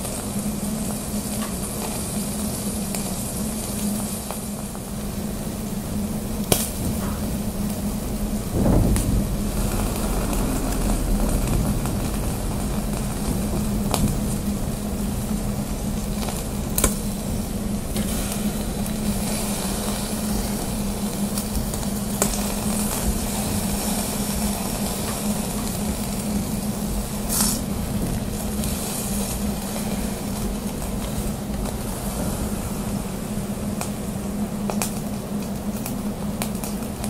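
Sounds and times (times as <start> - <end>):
steaks sizzling on grill: 0.0 - 8.5, 9.3 - 35.2
steady low hum: 0.0 - 37.0.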